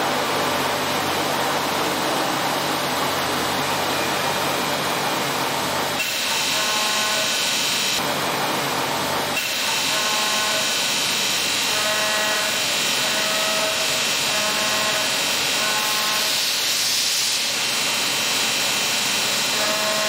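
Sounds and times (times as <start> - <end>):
steady machine hiss: 0.0 - 8.3, 9.2 - 20.0
high-pitched machine whine: 0.0 - 20.0.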